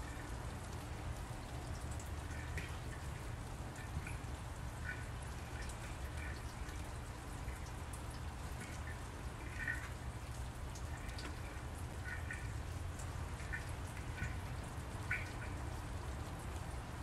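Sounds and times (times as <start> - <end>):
rain drips ticking: 0.0 - 17.0.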